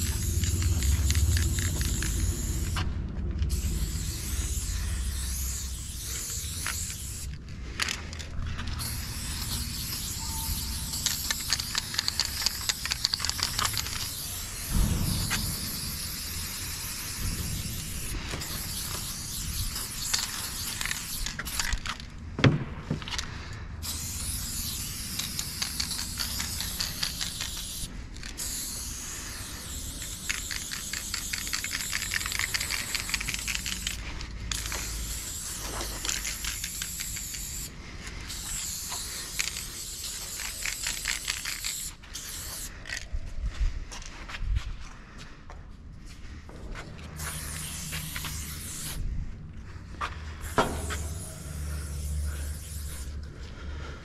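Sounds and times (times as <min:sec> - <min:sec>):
spray paint can hissing: 0:00.0 - 0:22.1, 0:23.8 - 0:43.0, 0:47.0 - 0:49.0, 0:50.3 - 0:53.3.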